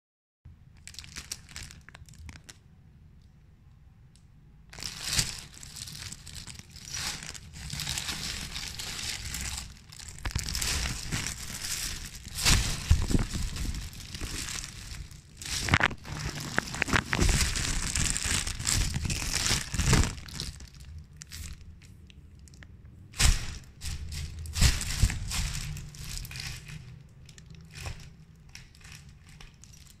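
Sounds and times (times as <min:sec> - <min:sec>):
plastic bag crinkling: 0:00.8 - 0:02.6, 0:04.7 - 0:30.0.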